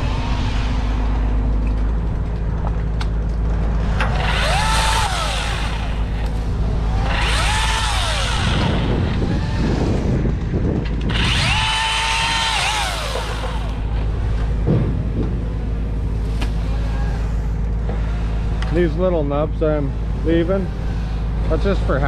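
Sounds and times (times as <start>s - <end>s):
chainsaw motor whining: 0.0s - 14.6s, 15.8s - 22.0s
steady low rumble: 0.0s - 22.0s.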